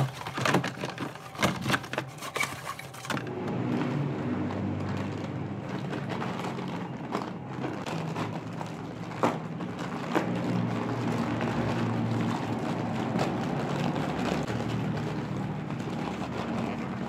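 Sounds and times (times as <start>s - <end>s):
plastic bag crinkling and tearing: 0.0s - 17.0s.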